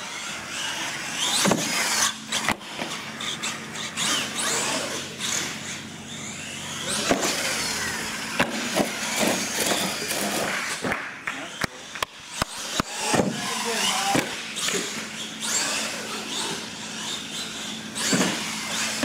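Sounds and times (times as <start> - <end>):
toy truck motors whining: 0.0 - 19.0.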